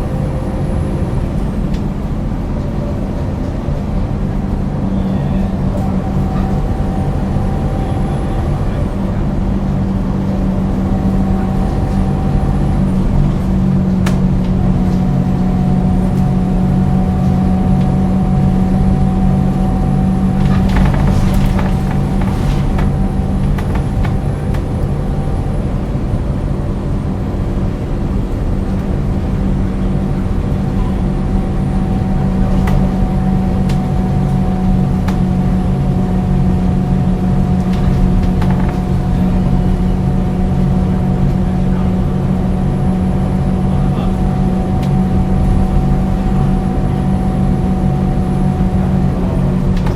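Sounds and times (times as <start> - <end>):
bus diesel engine droning: 0.0 - 49.9
engine whine: 0.0 - 49.9.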